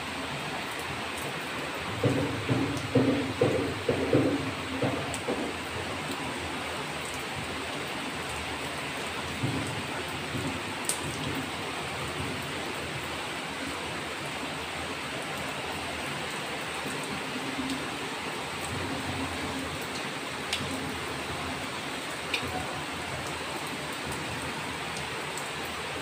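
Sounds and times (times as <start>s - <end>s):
rain falling on trees and rooftops: 0.0s - 26.0s
raindrop ticks: 0.7s - 13.0s, 15.4s - 26.0s.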